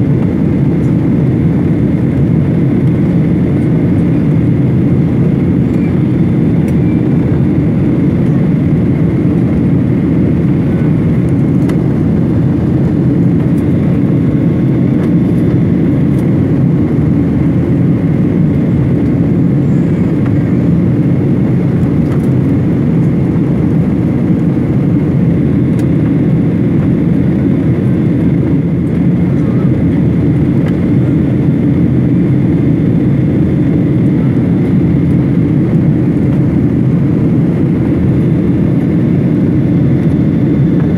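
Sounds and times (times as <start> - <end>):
jet engine and airflow rush: 0.0 - 40.9.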